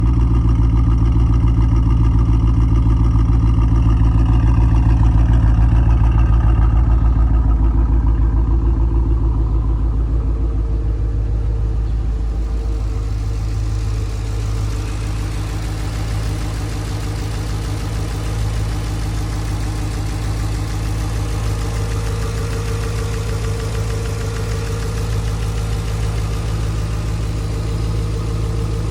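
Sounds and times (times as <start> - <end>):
car engine idling with misfire: 0.0 - 28.9.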